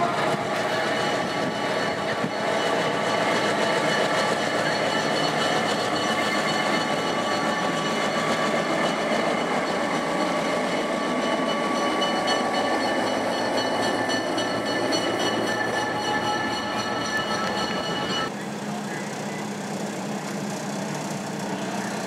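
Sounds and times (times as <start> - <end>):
train rolling along track: 0.0 - 22.0
high steady ringing tones: 0.4 - 18.3.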